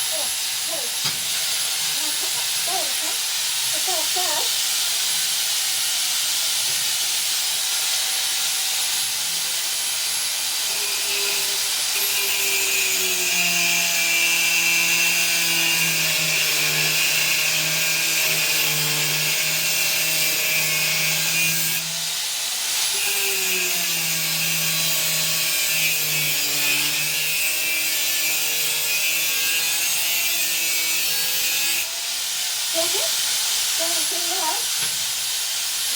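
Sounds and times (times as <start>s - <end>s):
angle grinder cutting steel: 0.0s - 35.9s.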